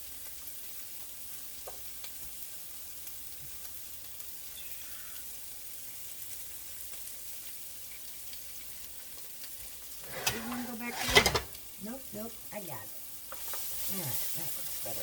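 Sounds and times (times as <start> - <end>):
onions sizzling in a pan: 0.0 - 15.0.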